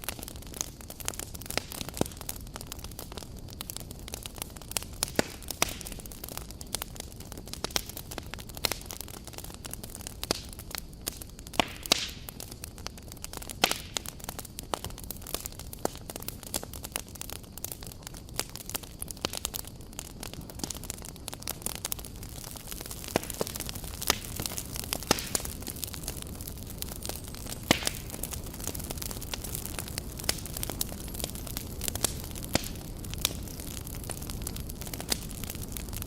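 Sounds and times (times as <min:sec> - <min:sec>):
burning wood popping and snapping: 0:00.0 - 0:36.0.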